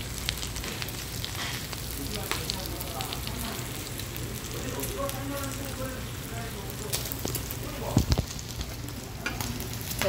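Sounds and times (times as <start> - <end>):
crackles and pops: 0.0 - 5.8, 6.6 - 10.0
pork sizzling on griddle: 0.0 - 10.0.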